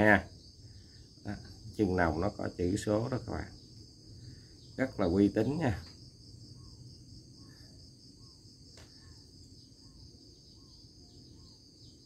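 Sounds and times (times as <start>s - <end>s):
high-pitched insect trilling: 0.0s - 12.0s.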